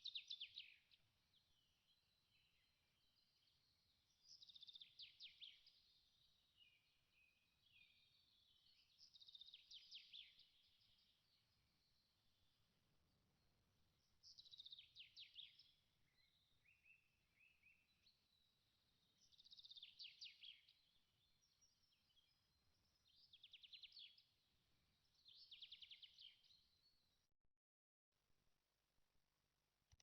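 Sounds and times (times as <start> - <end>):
soft bird chirps: 0.0 - 27.2.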